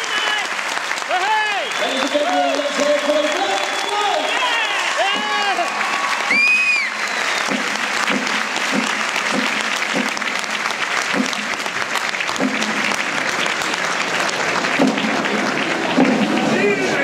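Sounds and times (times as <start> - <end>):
stadium crowd applauding: 0.0 - 17.0.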